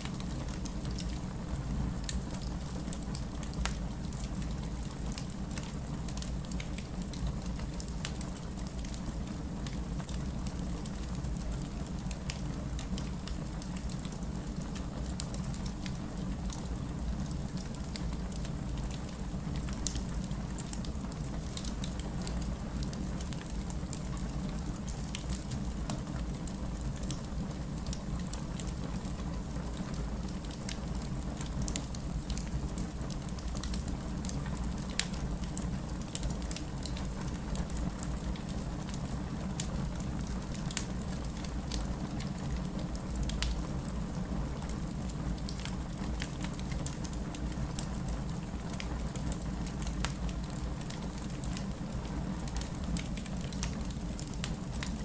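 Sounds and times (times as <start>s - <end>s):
fire crackling: 0.0s - 55.0s
low rumble of flames: 0.0s - 55.0s.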